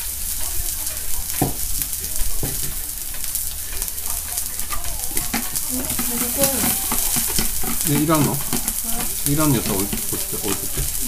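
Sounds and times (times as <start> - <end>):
food sizzling on hot plate: 0.0 - 11.0
utensils and dishes clicking: 0.4 - 11.0.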